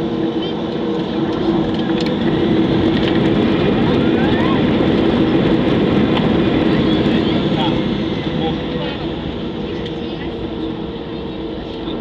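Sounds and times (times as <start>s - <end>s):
jet engines from inside cabin: 0.0s - 12.0s.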